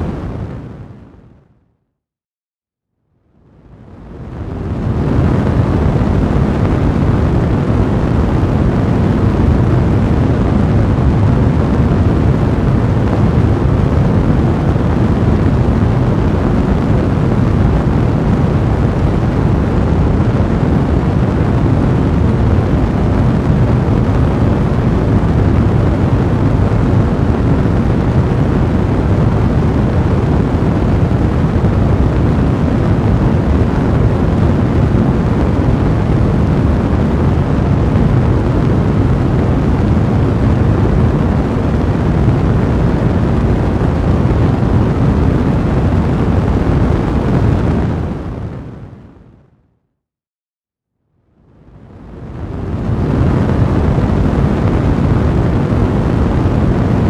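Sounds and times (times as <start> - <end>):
fire burning with low rumble: 0.0 - 1.6, 3.2 - 49.4, 51.4 - 57.0.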